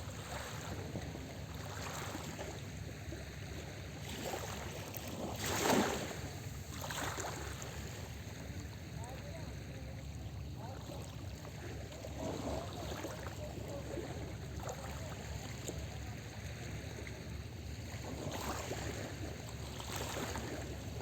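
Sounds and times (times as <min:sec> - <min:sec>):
small waves lapping on shore: 0:00.0 - 0:21.0.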